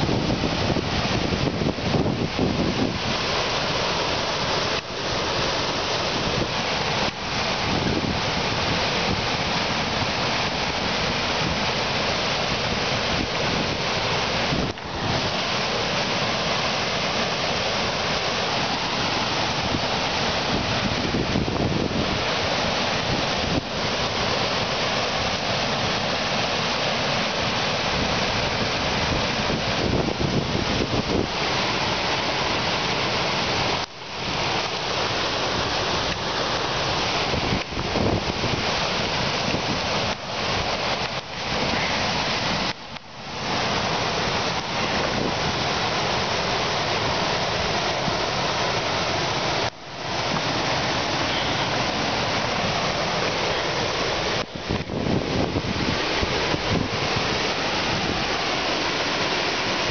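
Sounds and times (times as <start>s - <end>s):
wind on microphone: 0.0s - 4.6s, 5.2s - 16.1s, 18.8s - 26.5s, 27.7s - 34.4s, 37.1s - 42.8s, 43.6s - 59.9s
river water rushing: 0.0s - 59.9s.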